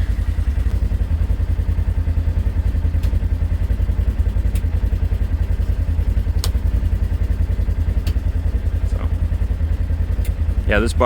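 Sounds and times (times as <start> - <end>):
utility vehicle engine idling: 0.0 - 11.0.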